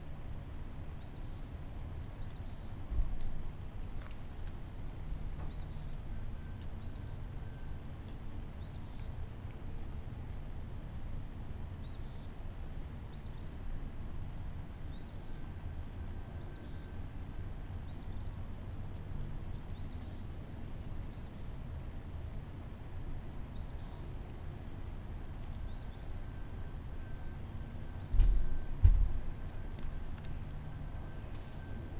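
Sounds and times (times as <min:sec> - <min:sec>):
steady high-pitched hiss: 0:00.0 - 0:31.9.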